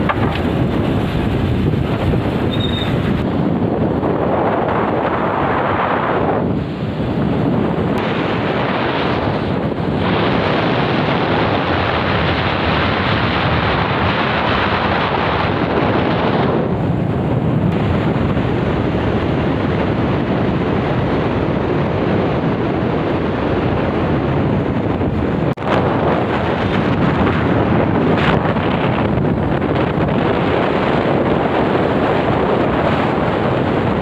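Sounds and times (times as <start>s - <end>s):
wind rushing over microphone: 0.0s - 34.0s.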